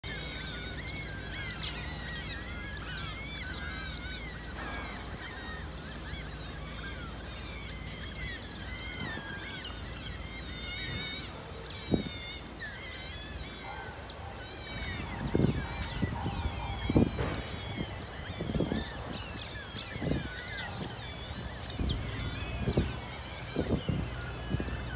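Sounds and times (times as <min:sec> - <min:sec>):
otters chirping: 0:00.0 - 0:24.9.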